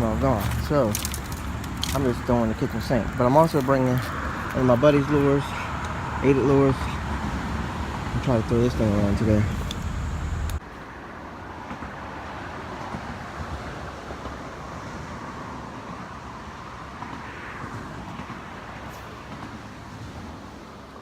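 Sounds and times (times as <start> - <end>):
steady rushing outdoor noise: 0.0 - 21.0.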